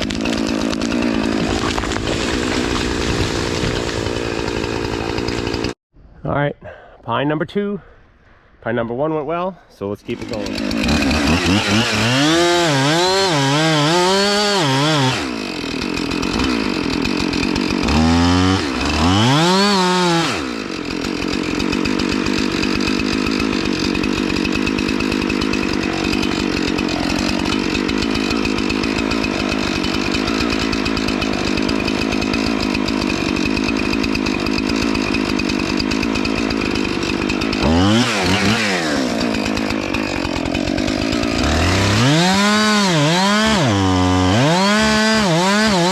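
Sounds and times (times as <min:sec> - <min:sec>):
chainsaw revving and cutting wood: 0:00.0 - 0:05.8, 0:10.0 - 0:45.9.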